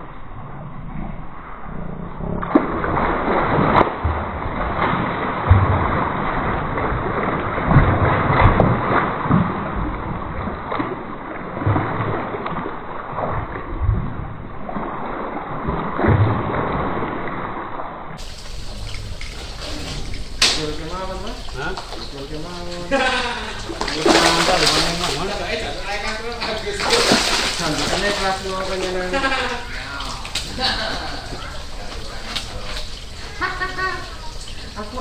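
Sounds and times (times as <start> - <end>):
water splashing and sloshing: 0.0 - 35.0.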